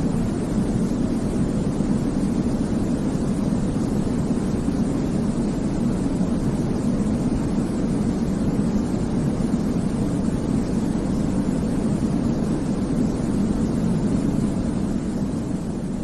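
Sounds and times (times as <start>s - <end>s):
deep-toned white noise: 0.0s - 16.0s.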